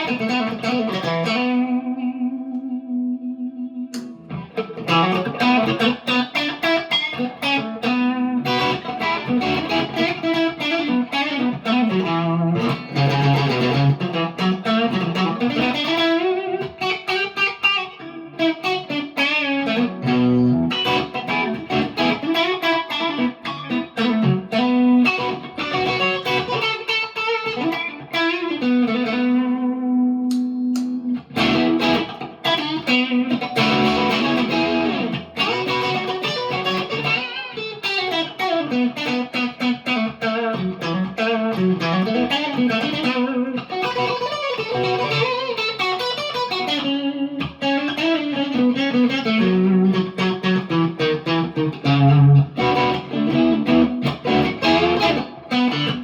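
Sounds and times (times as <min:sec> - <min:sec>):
electric guitar playing notes and chords: 0:00.0 - 0:56.0.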